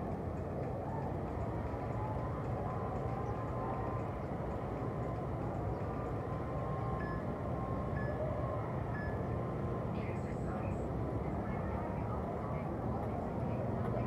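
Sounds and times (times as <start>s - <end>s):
distant road traffic rumble: 0.0s - 14.0s.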